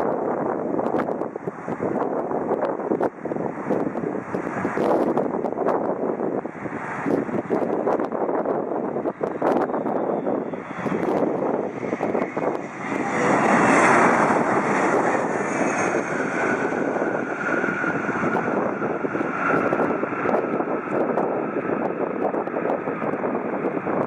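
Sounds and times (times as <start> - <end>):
faint engine whine: 0.0 - 24.0
jet airliner landing: 0.0 - 24.0.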